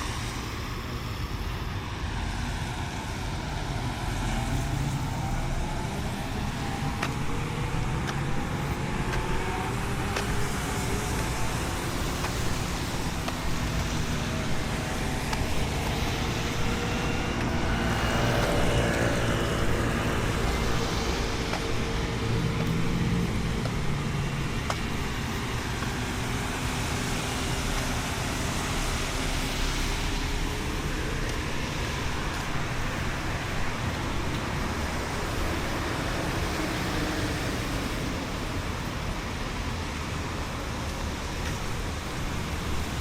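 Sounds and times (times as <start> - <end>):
road traffic noise: 0.0 - 43.0
vehicle passing: 2.3 - 38.7.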